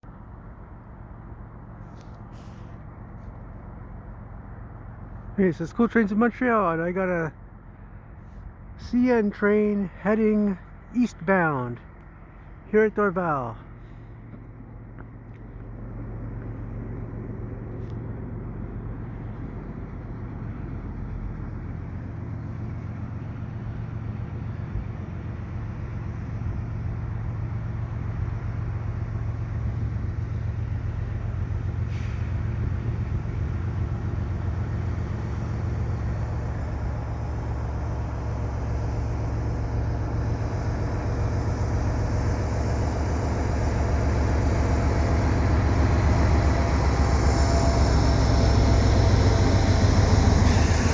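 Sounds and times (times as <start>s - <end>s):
locomotive engine drone: 0.0s - 50.9s.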